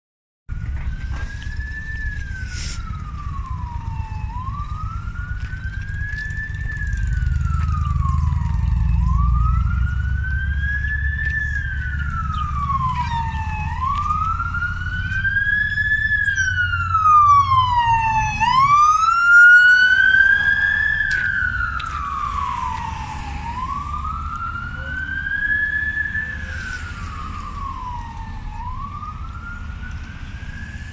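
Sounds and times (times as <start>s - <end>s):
police siren wailing: 0.5s - 30.9s
road traffic rumble: 0.5s - 30.9s.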